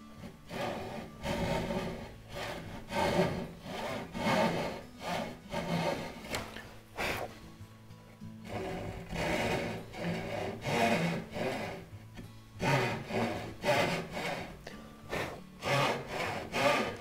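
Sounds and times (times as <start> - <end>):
hand saw cutting wood: 0.0 - 7.4, 8.4 - 17.0.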